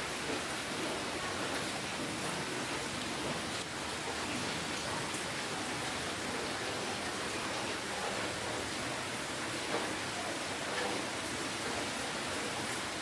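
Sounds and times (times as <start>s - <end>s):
rain hiss: 0.0s - 13.0s
faint raindrop ticks: 0.1s - 13.0s.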